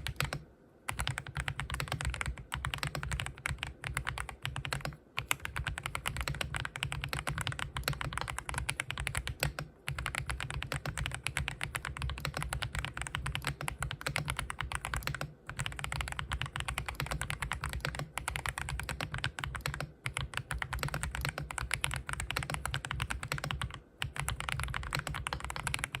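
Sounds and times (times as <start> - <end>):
mechanical keyboard typing: 0.0 - 26.0.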